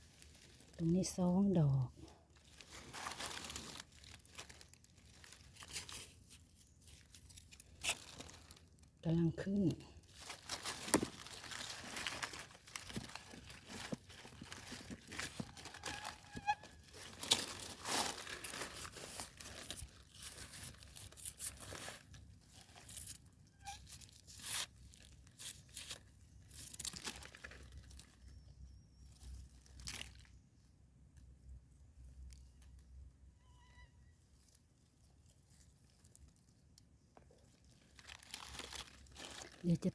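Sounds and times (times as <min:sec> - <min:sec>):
dry leaves and twigs crunching: 0:00.0 - 0:31.3, 0:34.2 - 0:39.9.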